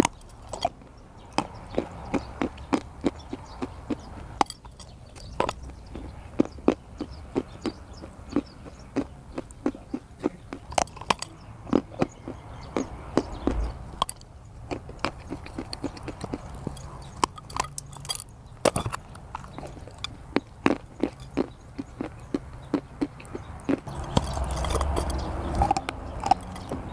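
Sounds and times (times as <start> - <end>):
person chewing crunchy clay: 0.0 - 26.9.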